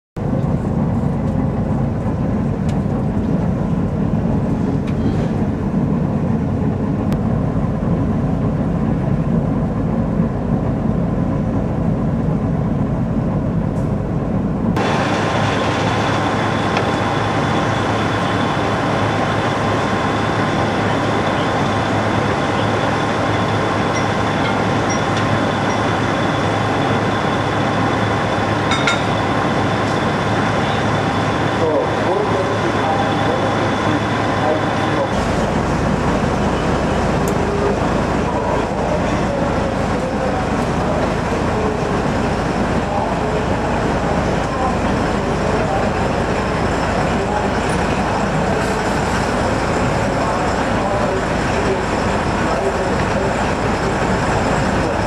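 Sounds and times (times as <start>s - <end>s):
diesel locomotives idling: 0.2s - 55.0s
locomotive engine rumble: 0.2s - 55.0s.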